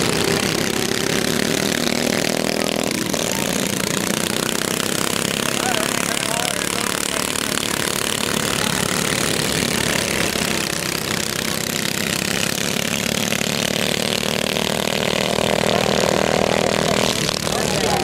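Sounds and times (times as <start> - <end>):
go-kart engines buzzing: 0.0 - 18.0.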